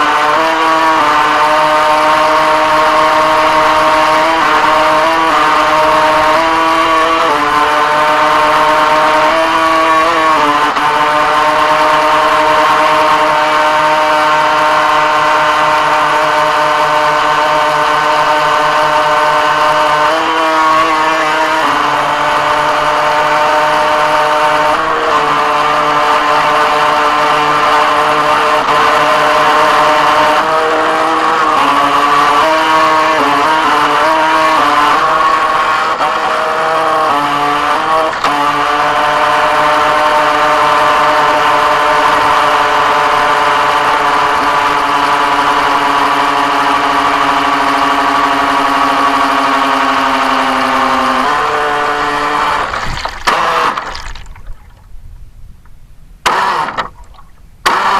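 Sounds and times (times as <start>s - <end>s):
model boat motor running: 0.0s - 55.0s, 56.3s - 57.9s.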